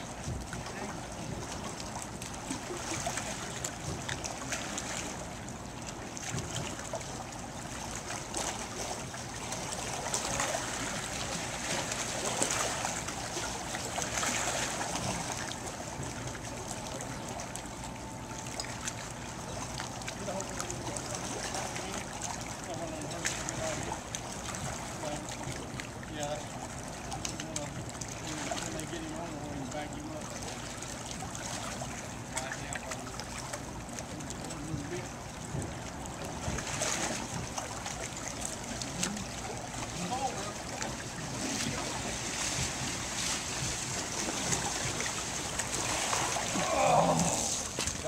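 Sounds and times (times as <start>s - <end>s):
small water splashes: 0.0s - 48.0s
water lapping around rocks: 0.0s - 48.0s.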